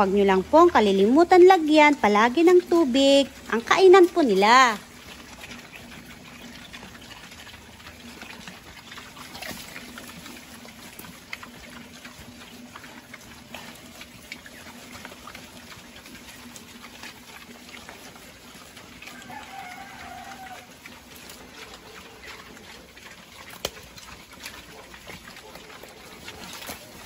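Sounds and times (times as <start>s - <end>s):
pigs slurping water: 0.0s - 27.0s.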